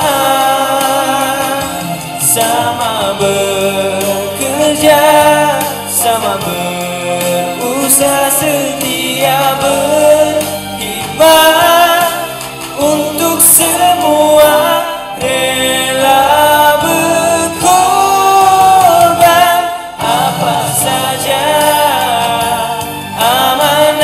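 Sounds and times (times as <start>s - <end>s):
backing music: 0.0s - 24.0s
man singing with vibrato: 0.0s - 24.0s.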